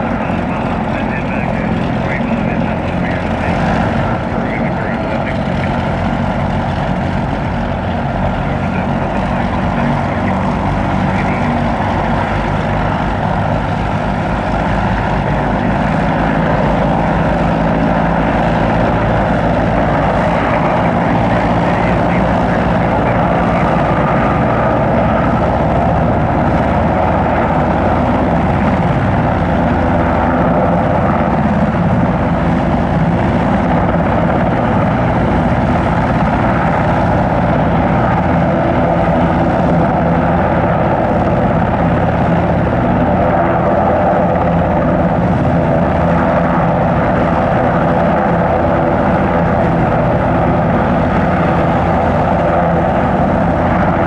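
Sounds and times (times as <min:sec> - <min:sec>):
helicopter running on ground: 0:00.0 - 0:54.0.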